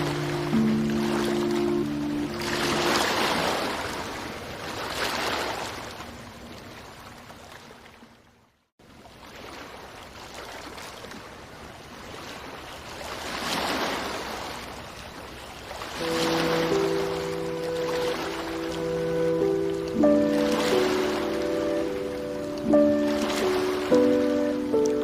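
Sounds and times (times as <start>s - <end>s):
ocean waves washing in: 0.0s - 8.2s, 8.9s - 25.0s.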